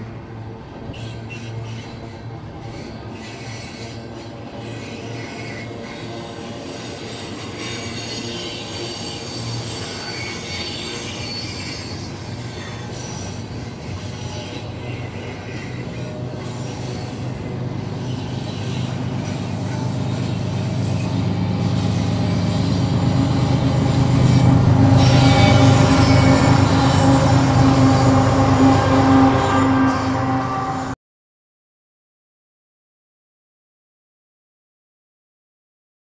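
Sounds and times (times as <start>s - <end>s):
diesel locomotive drone: 0.0s - 31.0s
train wheels rumbling on rail: 0.0s - 31.0s.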